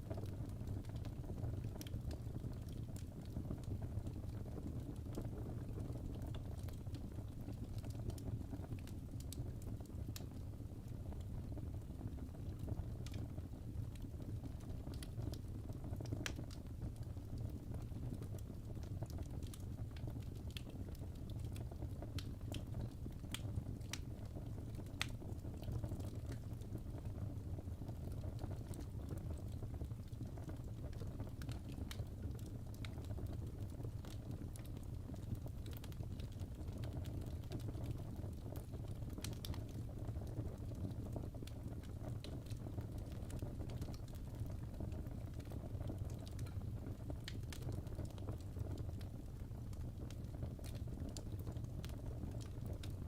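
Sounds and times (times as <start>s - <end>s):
logs burning with crackles: 0.0s - 53.0s.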